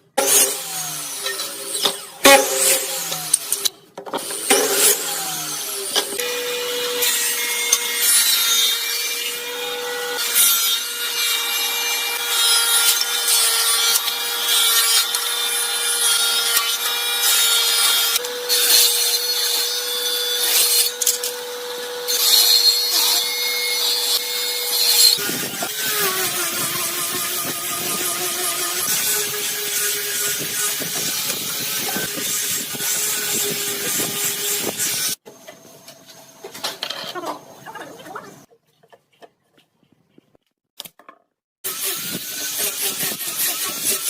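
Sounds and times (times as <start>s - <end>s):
power saw cutting wood: 0.1s - 37.2s, 41.6s - 44.0s.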